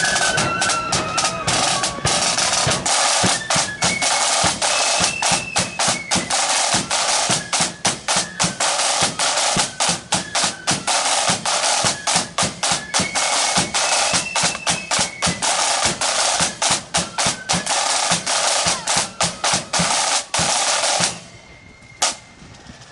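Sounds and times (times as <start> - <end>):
snare drum rolls: 0.0 - 21.4, 22.0 - 22.2
faint flute melody: 0.0 - 22.9.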